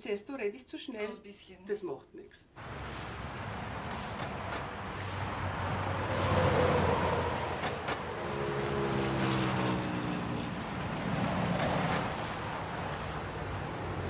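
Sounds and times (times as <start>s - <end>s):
broom scraping wet slush: 2.6s - 14.0s
traffic noise: 2.6s - 14.0s
vehicle passing: 2.6s - 14.0s.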